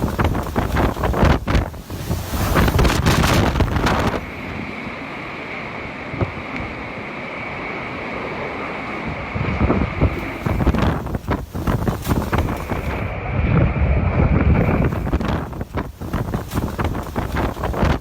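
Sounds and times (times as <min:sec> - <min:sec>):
rain: 0:00.0 - 0:09.2, 0:10.0 - 0:13.2, 0:14.6 - 0:18.0
high steady whine: 0:00.0 - 0:18.0
wind gusting against microphone: 0:00.0 - 0:18.0.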